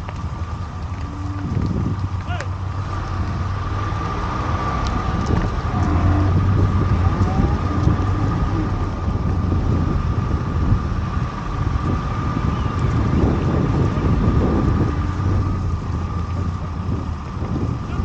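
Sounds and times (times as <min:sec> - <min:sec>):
moving vehicle rumble: 0:00.0 - 0:18.0
thin steady whine: 0:00.2 - 0:18.0.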